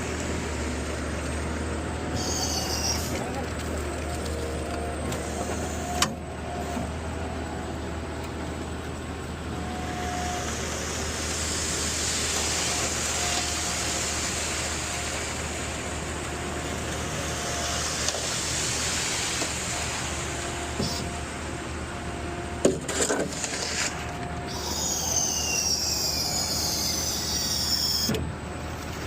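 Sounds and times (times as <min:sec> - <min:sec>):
concrete mixer truck engine humming: 0:00.0 - 0:29.0.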